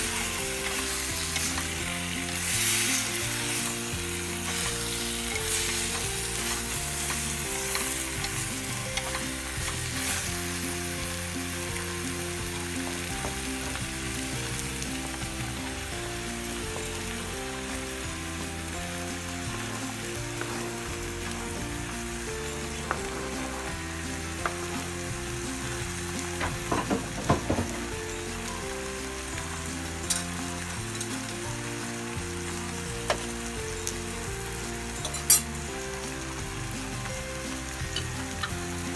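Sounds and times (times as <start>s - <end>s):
curry sizzling in clay pot: 0.0s - 38.9s.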